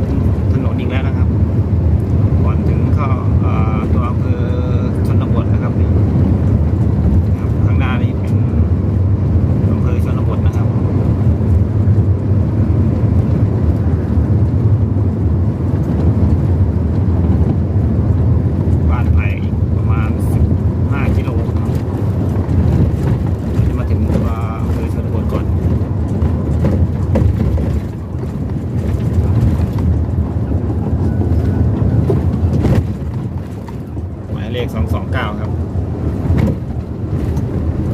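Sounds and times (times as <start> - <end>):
vehicle driving on highway: 0.0 - 37.9.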